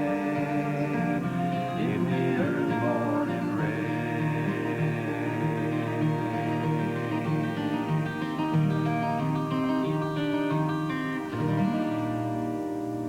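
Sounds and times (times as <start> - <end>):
acoustic guitars playing: 0.0 - 13.0.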